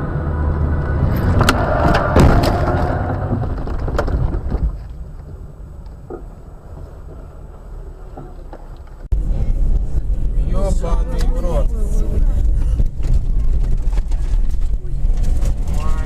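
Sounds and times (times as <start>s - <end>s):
low rumble of moving car: 0.0s - 16.0s.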